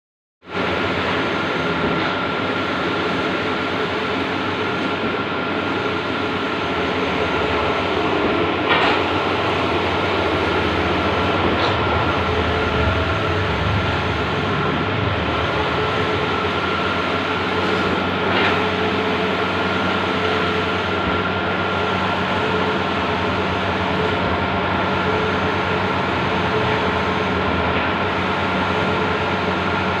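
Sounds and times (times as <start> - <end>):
high whine: 0.5 - 29.9
printing machine running: 0.5 - 30.0.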